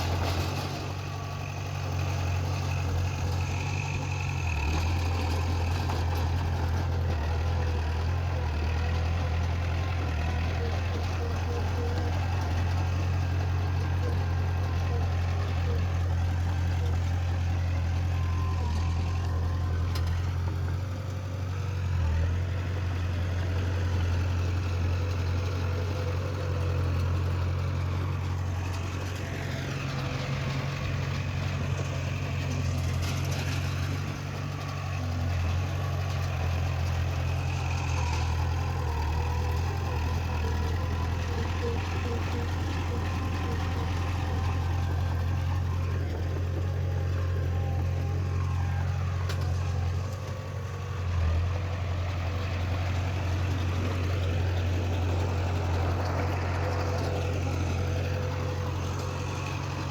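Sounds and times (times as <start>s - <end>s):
heavy machinery engine humming: 0.0s - 59.9s.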